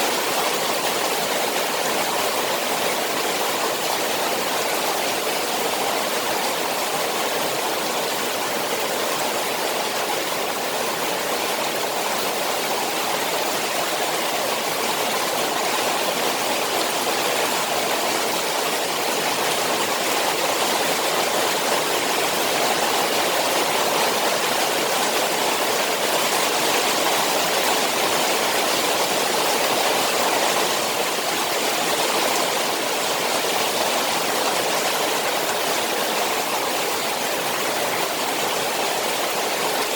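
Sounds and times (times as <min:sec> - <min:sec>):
rain on a pond: 0:00.0 - 0:39.9.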